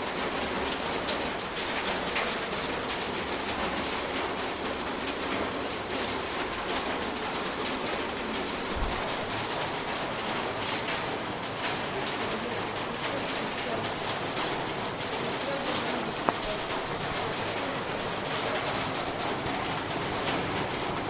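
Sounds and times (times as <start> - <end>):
rain tapping on a roof: 0.0 - 21.0.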